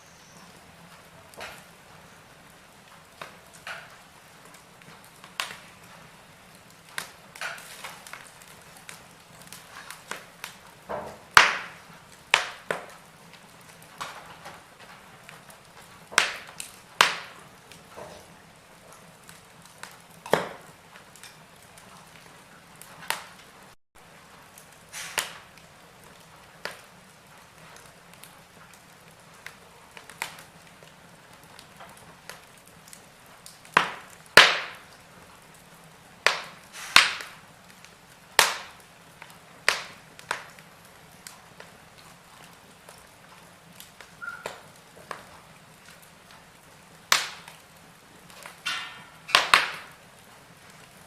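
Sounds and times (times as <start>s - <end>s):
faint steady hiss: 0.0s - 51.0s
wood fire crackling: 0.0s - 51.0s.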